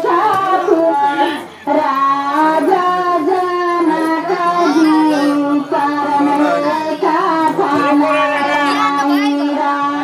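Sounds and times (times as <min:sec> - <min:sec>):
woman singing slow melody: 0:00.0 - 0:10.0.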